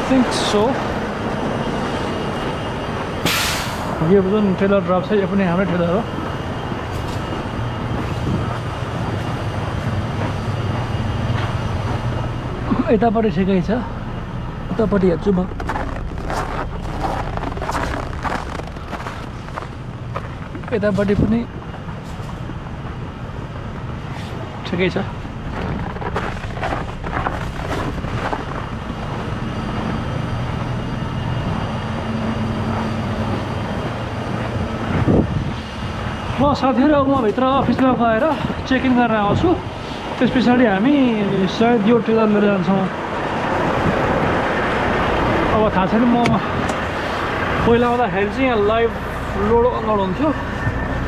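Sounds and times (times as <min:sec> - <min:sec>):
diesel truck engine idling: 0:00.0 - 0:51.0
higher steady hum: 0:00.0 - 0:51.0
outdoor noise: 0:00.0 - 0:51.0.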